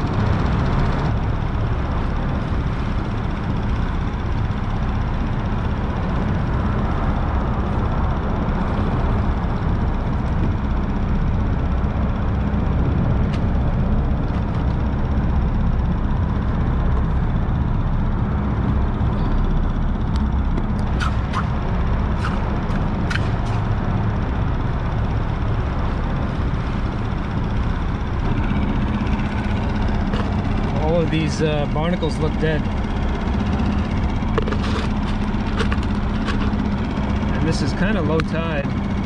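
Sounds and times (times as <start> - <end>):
highway traffic rumble: 0.0 - 39.0.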